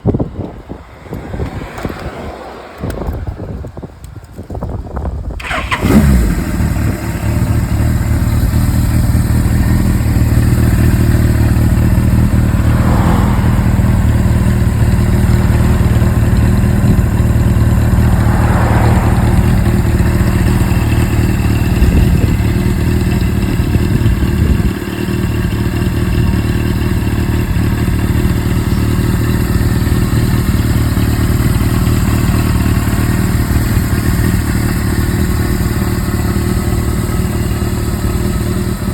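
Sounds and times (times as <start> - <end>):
motorcycle engine starting and idling: 0.2 - 38.9.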